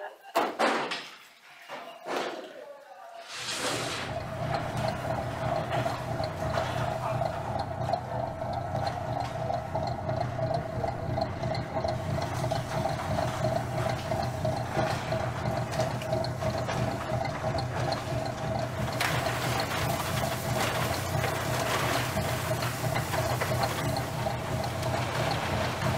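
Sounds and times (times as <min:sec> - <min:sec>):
water jets spraying: 0:03.2 - 0:25.9
washing machine motor hum with ticking: 0:03.5 - 0:25.9.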